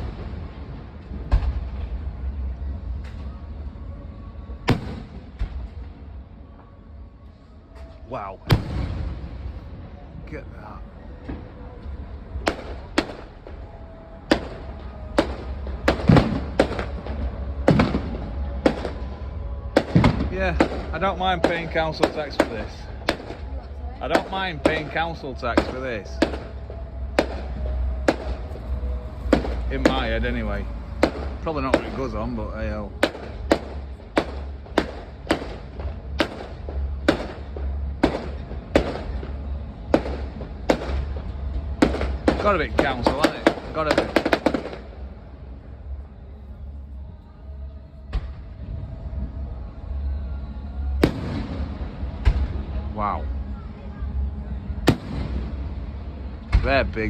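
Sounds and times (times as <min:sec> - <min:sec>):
fireworks bangs: 0:00.0 - 0:06.7, 0:07.7 - 0:57.0
steady low rumble: 0:00.0 - 0:57.0.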